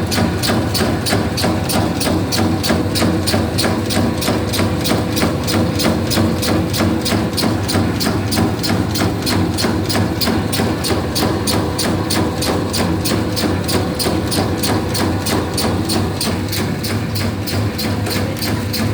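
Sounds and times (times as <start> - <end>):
fast mechanical clicking: 0.0 - 18.9
motor hum: 0.0 - 18.9.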